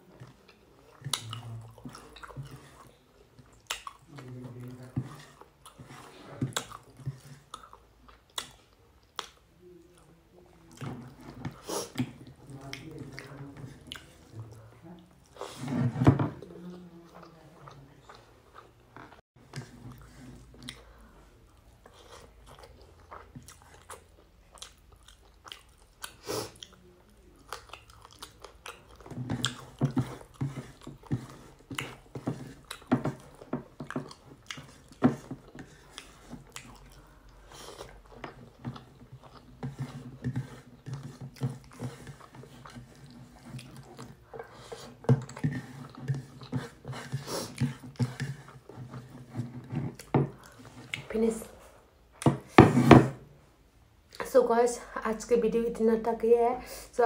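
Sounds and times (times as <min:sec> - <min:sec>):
person chewing and smacking: 0:00.0 - 0:15.6, 0:16.4 - 0:51.1.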